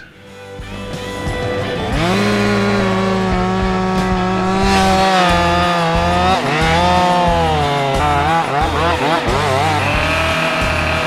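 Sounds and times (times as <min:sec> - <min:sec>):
chainsaw cutting tree trunk: 0:01.4 - 0:11.0.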